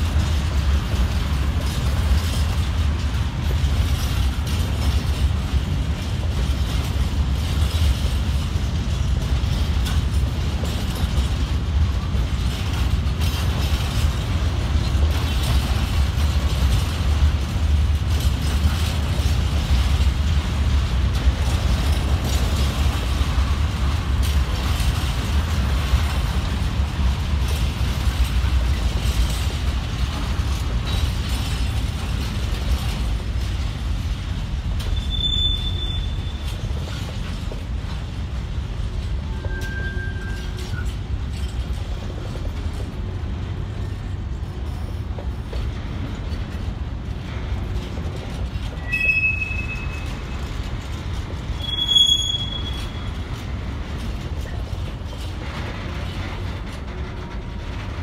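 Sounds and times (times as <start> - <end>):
train wheels rumbling on rail: 0.0 - 58.0
wheels and couplings clattering: 0.0 - 58.0.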